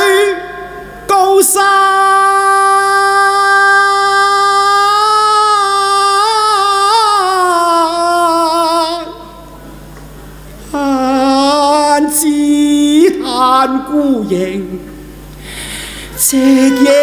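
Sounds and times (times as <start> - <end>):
man singing long note: 0.0 - 9.4, 10.7 - 14.8, 16.1 - 17.0.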